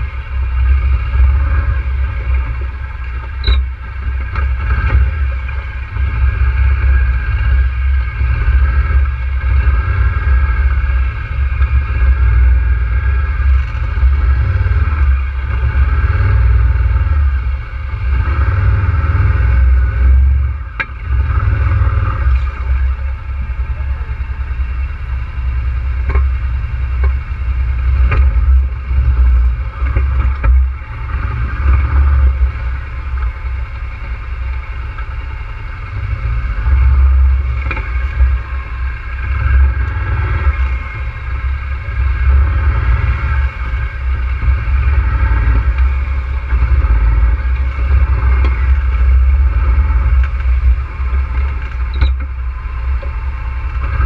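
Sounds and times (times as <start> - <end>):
atv engine rumbling: 0.0 - 54.0.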